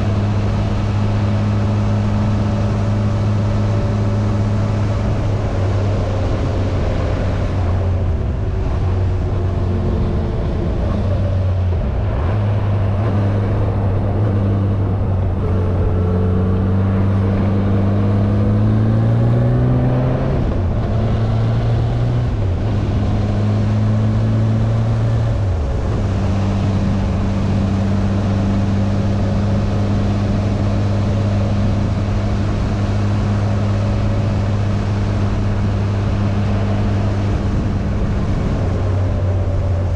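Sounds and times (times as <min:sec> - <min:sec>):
riding wind noise: 0:00.0 - 0:39.9.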